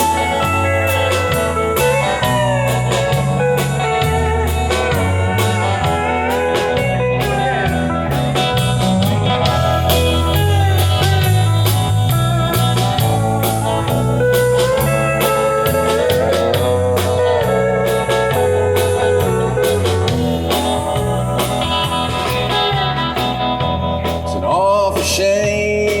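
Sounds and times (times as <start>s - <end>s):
lead guitar solo with bent notes: 0.0s - 25.0s
bass: 0.0s - 26.0s
drum kit: 0.0s - 26.0s.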